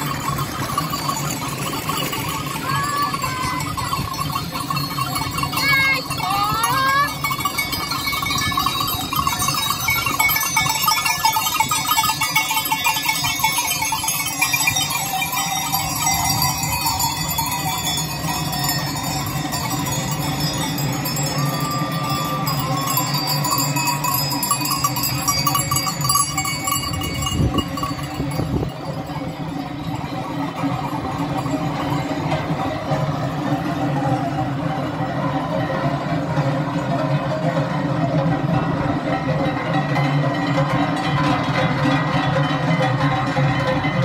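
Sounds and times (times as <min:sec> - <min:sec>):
goat bells clanging: 0:00.0 - 0:44.0.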